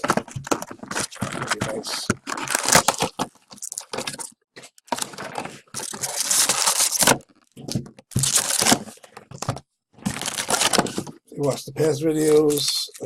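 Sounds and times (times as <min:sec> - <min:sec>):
packaging tearing and crinkling: 0:00.0 - 0:09.4, 0:10.0 - 0:13.0.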